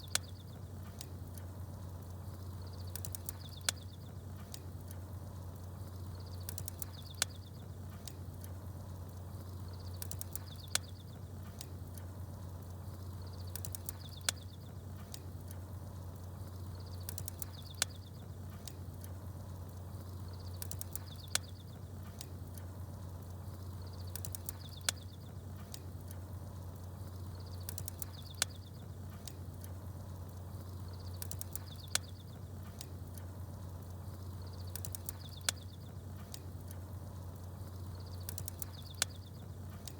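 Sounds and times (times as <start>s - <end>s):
small birds chirping: 0.0s - 39.9s
steady low hum: 0.0s - 39.9s
wood fire crackling and popping: 0.0s - 39.9s.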